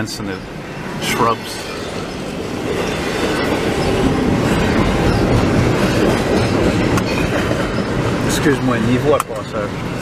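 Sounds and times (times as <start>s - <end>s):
freight train rumbling past: 0.0s - 10.0s
wheels clacking over rails: 1.0s - 10.0s.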